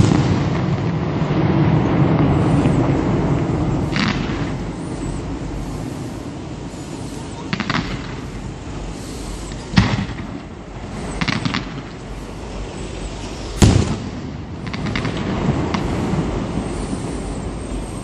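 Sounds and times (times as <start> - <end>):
firework bang: 0.0 - 6.3, 6.9 - 12.1, 13.6 - 18.0
firework shell burst: 0.0 - 12.1, 13.2 - 18.0
firework comets firing: 0.0 - 18.0
fireworks crackling: 0.0 - 18.0.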